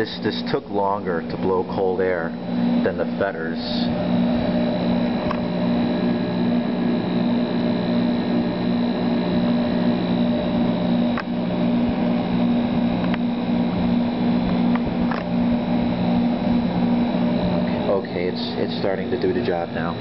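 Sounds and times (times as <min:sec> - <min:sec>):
air conditioner fan humming: 0:00.0 - 0:20.0
faint high whine: 0:00.0 - 0:20.0.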